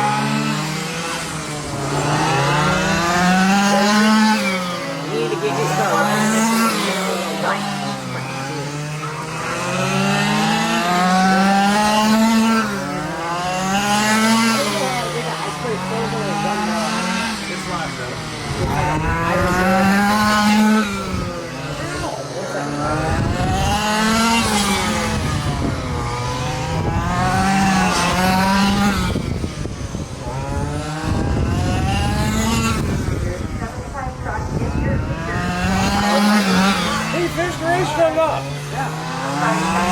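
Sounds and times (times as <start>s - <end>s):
rc truck engines revving: 0.0s - 39.9s.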